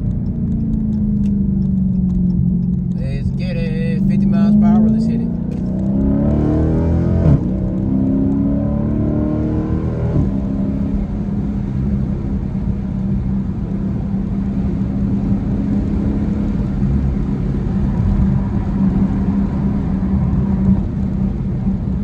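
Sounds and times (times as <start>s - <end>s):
car engine droning while driving: 0.0s - 22.0s.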